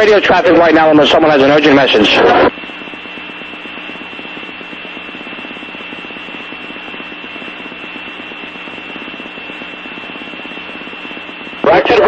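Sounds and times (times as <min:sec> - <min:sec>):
fast low buzz: 0:00.0 - 0:12.0
radio static hiss: 0:00.0 - 0:12.0.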